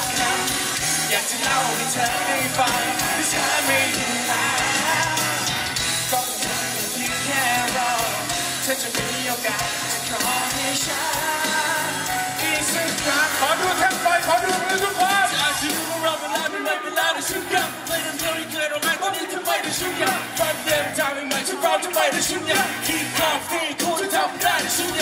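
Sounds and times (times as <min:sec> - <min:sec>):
bass line: 0:00.0 - 0:16.3, 0:19.7 - 0:25.0
person singing: 0:00.0 - 0:25.0
pop-rock band playing: 0:00.0 - 0:25.0.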